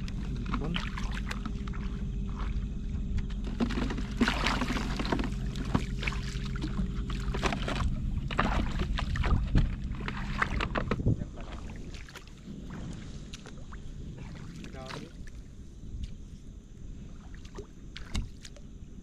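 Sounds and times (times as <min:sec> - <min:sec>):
seawater splashing and sloshing: 0:00.0 - 0:19.0
steady low hum: 0:00.0 - 0:19.0.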